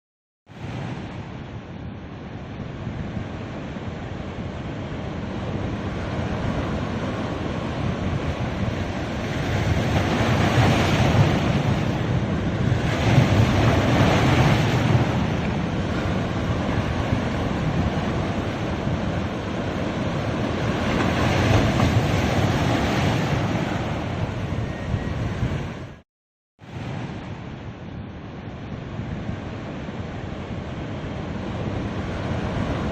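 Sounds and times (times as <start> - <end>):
waves breaking on a beach: 0.5 - 26.0, 26.6 - 32.9.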